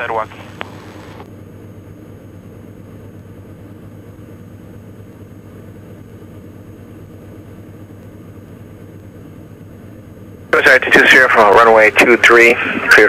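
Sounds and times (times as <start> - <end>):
aircraft engine and propeller drone: 0.0 - 13.0.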